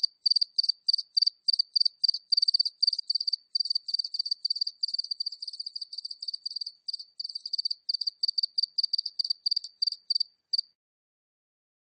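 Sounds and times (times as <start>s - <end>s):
cricket chirping: 0.0s - 10.7s.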